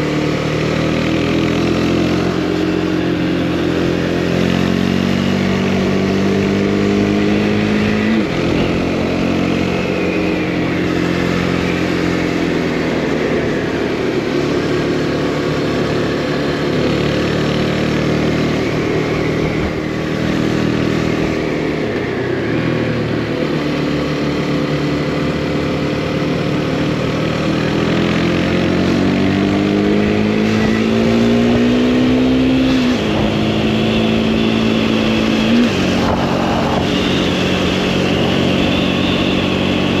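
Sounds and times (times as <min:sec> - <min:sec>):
motorcycle engine accelerating: 0:00.0 - 0:40.0
wind and road noise: 0:00.0 - 0:40.0.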